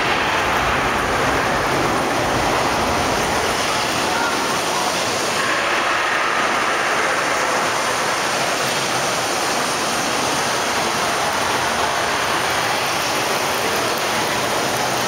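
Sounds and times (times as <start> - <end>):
rain falling on water and rocks: 0.0 - 15.0.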